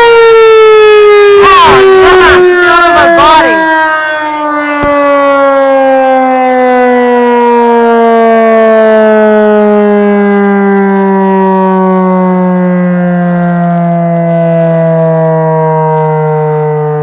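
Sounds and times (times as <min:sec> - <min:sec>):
siren winding down: 0:00.0 - 0:17.0.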